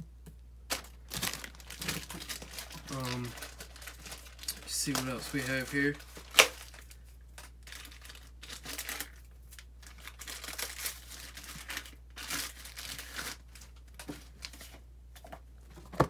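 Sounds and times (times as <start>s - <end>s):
packaging crinkling and rustling: 0.7s - 16.0s.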